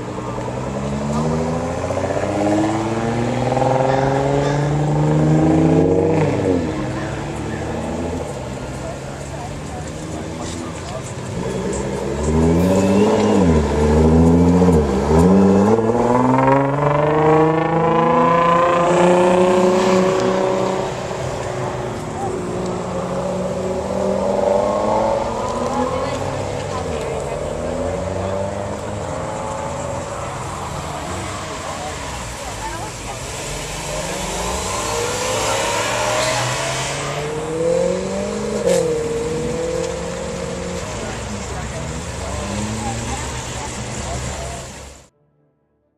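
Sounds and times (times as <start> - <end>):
car engine accelerating: 0.0 - 45.1.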